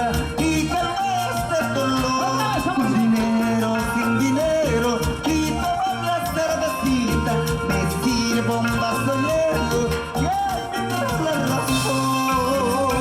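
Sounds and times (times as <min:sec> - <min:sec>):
live band playing latin dance music: 0:00.0 - 0:13.0
repeating bass line: 0:00.0 - 0:13.0
steady percussion beat: 0:00.0 - 0:13.0
sustained melody lines: 0:00.0 - 0:13.0.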